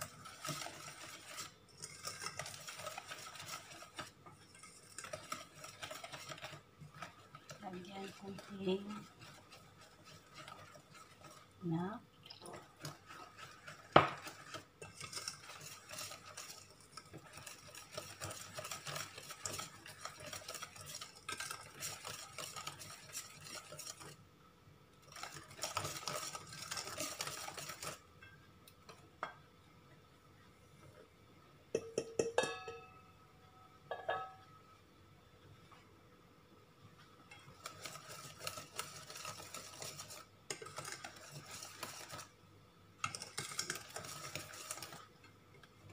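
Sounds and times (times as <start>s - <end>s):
whisk scraping metal bowl: 0.0s - 24.3s, 24.9s - 29.0s, 37.3s - 45.9s.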